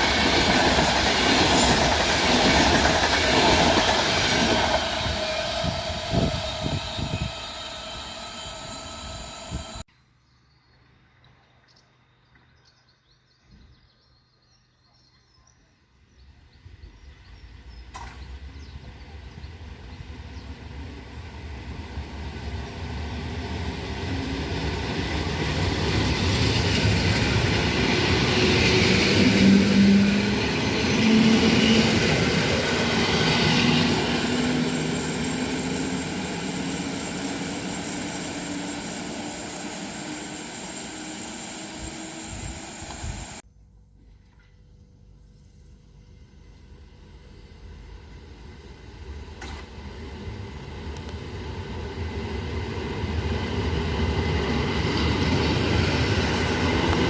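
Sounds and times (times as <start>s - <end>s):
train passing by: 0.0s - 9.9s, 16.2s - 43.4s, 46.2s - 57.0s.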